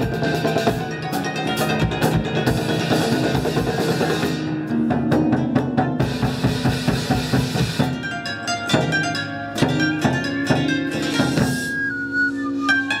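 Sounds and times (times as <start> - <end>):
drums beaten in fast rhythm: 0.0 - 13.0
pitched music: 0.0 - 13.0.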